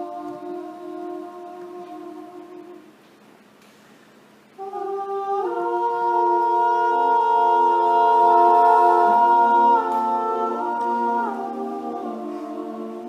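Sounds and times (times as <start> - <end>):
male a cappella group singing: 0.0 - 2.9, 4.6 - 13.0.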